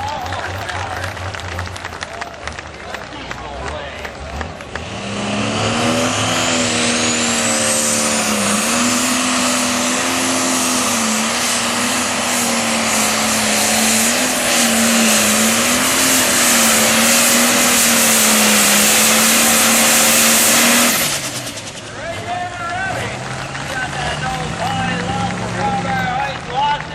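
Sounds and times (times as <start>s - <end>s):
tractor diesel engine drone: 0.0s - 26.9s.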